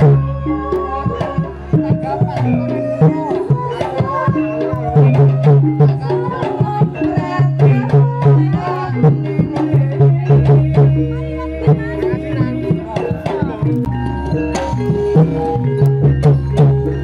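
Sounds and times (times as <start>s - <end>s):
fast hand-drum strokes: 0.0s - 17.0s
gong percussion notes: 0.0s - 17.0s.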